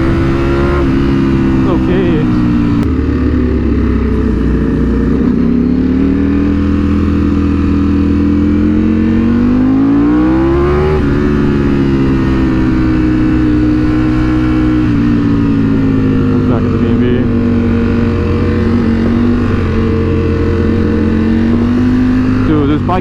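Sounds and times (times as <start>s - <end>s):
low wind rumble: 0.0s - 23.0s
motorcycle engine revving: 0.0s - 23.0s.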